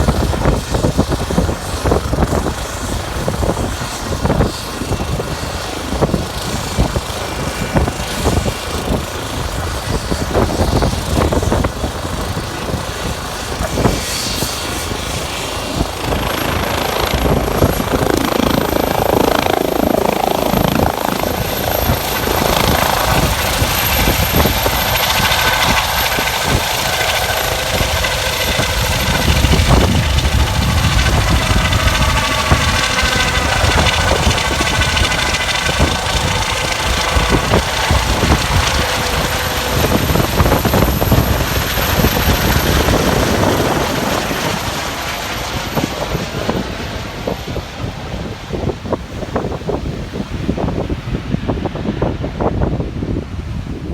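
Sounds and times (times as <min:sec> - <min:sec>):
gusty wind on microphone: 0:00.0 - 0:53.9
helicopter rotor and engine: 0:00.0 - 0:53.9
high turbine whine: 0:00.0 - 0:53.9.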